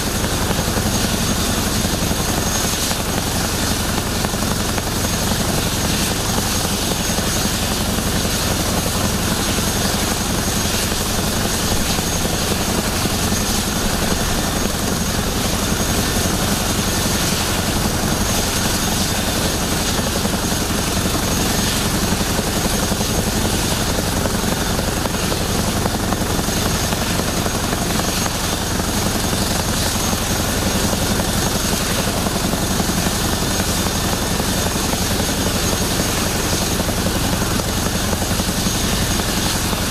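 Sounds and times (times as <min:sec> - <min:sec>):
helicopter rotor beat: 0:00.0 - 0:39.9
high turbine whine: 0:00.0 - 0:39.9.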